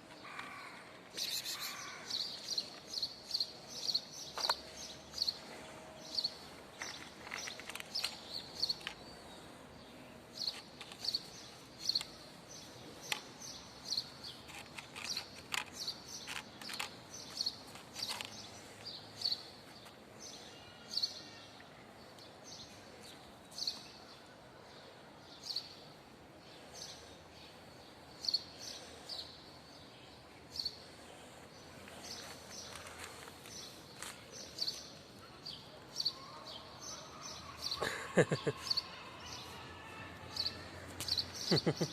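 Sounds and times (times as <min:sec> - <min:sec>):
small birds chirping: 0:00.1 - 0:21.4, 0:25.3 - 0:39.6, 0:40.4 - 0:41.9.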